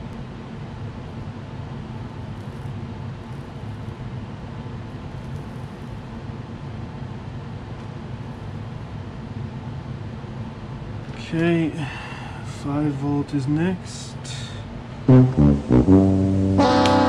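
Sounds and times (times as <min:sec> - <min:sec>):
low machine hum with hiss: 0:00.0 - 0:17.0.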